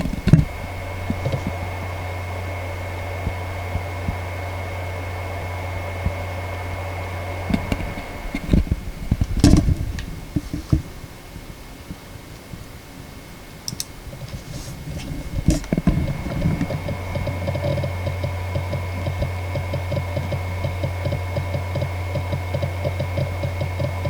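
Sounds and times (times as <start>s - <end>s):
hard drive clicks: 0.0s - 11.1s, 15.0s - 24.0s
faint high whine: 0.0s - 24.0s
hard drive humming: 0.0s - 24.0s.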